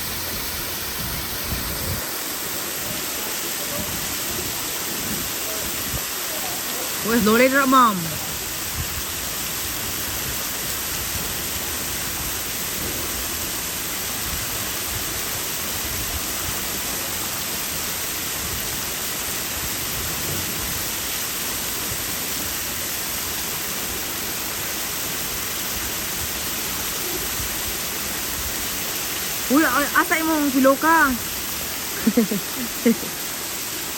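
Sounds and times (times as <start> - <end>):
waterfall pouring: 0.0 - 33.9.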